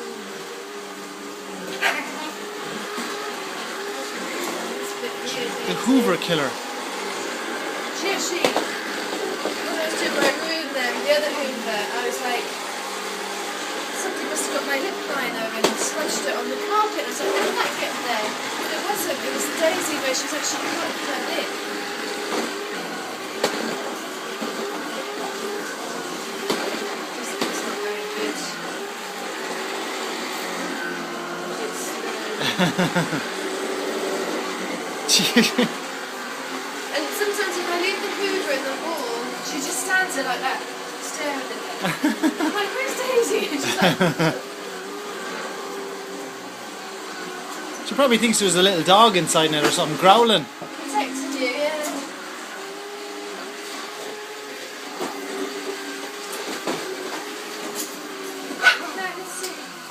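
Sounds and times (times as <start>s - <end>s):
vacuum cleaner motor humming: 0.0s - 59.9s.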